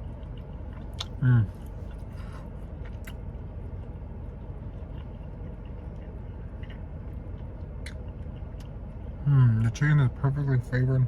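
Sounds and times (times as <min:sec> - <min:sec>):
person chewing food: 0:00.0 - 0:08.9
low background hum: 0:00.0 - 0:11.0.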